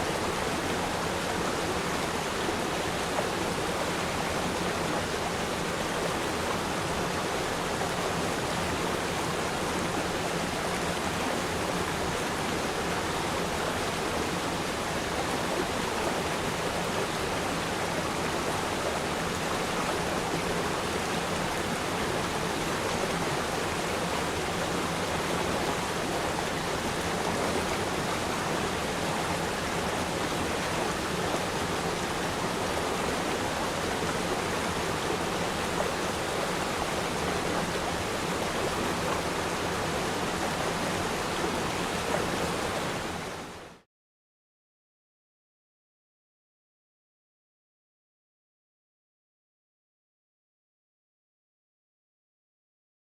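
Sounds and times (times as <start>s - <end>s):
stream flowing over rocks: 0.0s - 43.8s.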